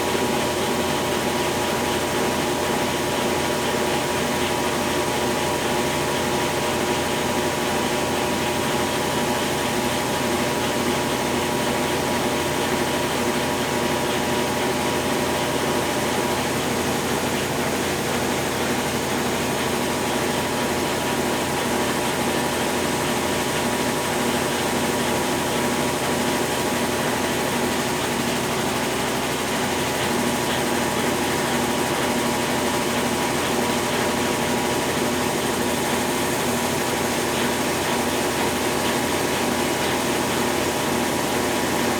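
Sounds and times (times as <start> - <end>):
washing machine humming: 0.0 - 41.9.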